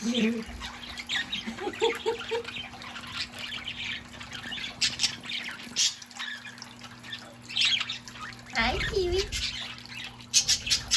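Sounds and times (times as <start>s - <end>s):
birds splashing in water: 0.0s - 10.9s
faint steady hum: 0.0s - 10.9s
trickling water fountain: 0.0s - 10.9s.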